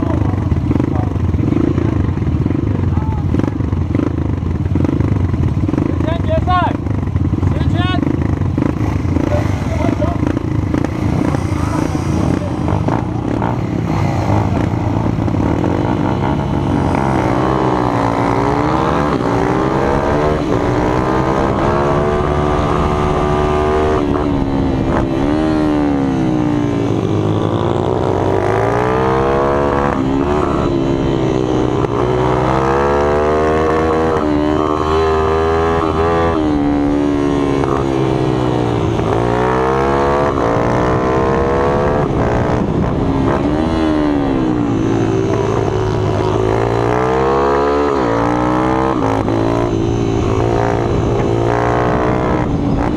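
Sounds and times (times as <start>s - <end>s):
minibike engine revving: 0.0s - 52.9s.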